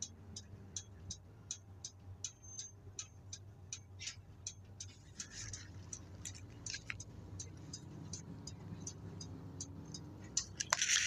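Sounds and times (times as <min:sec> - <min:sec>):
diesel engine hum: 0:00.0 - 0:11.0
regular ticking: 0:00.0 - 0:11.0.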